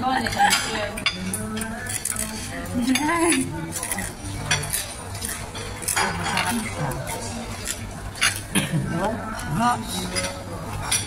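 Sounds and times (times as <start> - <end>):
murmur of diners' voices: 0.0 - 11.0
cutlery clinking on plates: 0.2 - 11.0.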